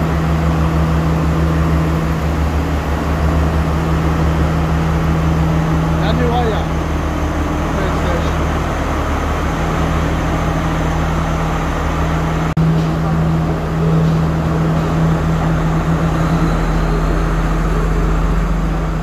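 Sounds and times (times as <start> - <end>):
diesel train engine droning: 0.0 - 19.0.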